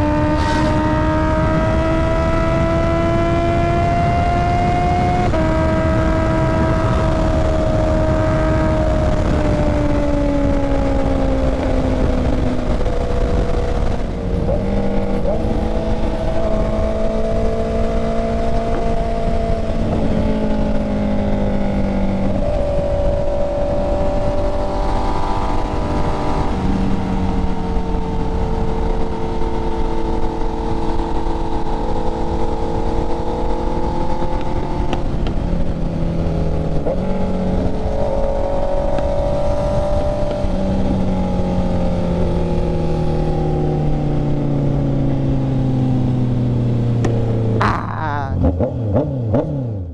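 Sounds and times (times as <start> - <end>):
motorcycle engine cruising: 0.0 - 49.9
wind rumble: 0.0 - 49.9.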